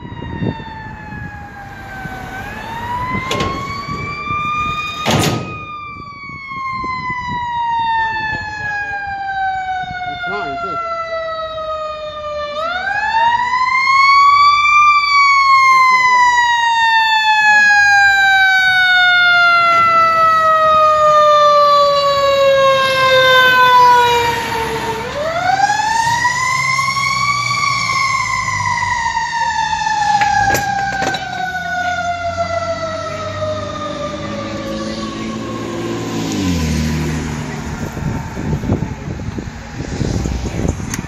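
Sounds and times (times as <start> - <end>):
fire truck siren wailing: 0.0 - 41.0
truck engine rumbling: 0.0 - 41.0.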